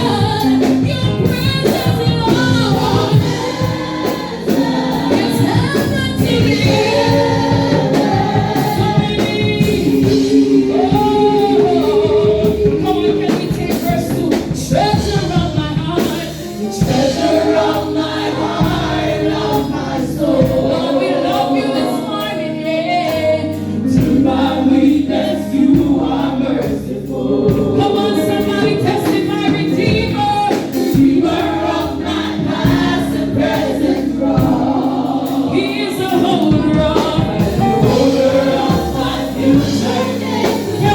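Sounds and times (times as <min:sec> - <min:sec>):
bass: 0:00.0 - 0:40.9
keyboard: 0:00.0 - 0:40.9
voices singing in harmony: 0:00.0 - 0:40.9.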